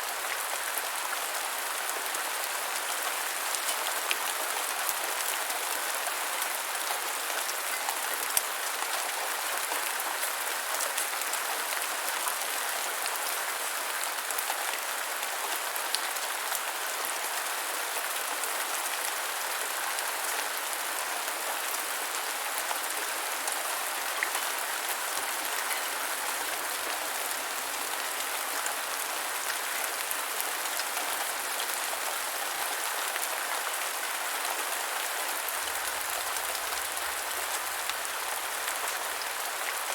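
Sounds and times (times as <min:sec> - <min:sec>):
gentle rain hiss: 0:00.0 - 0:39.9.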